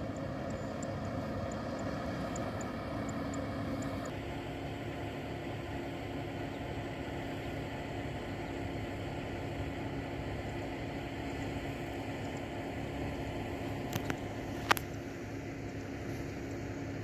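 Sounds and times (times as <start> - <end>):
distant engine humming: 0.0 - 17.0.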